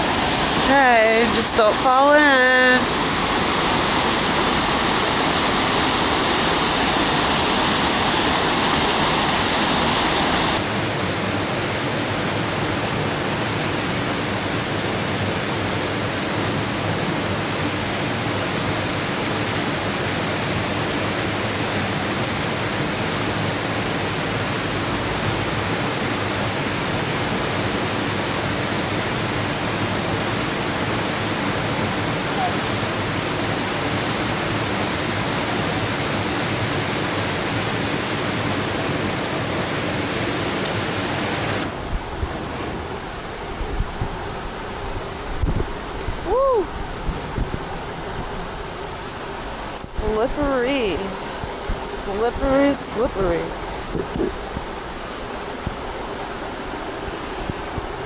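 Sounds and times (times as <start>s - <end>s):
whitewater waterfall rushing: 0.0s - 58.0s.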